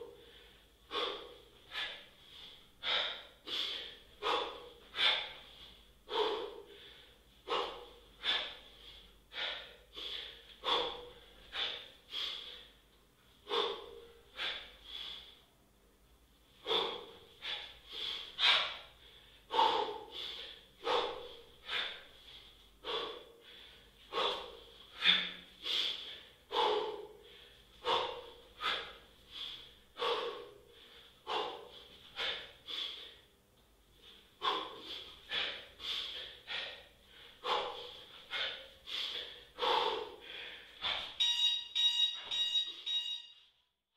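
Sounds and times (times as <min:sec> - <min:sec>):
man breathing hard: 0:00.0 - 0:41.3.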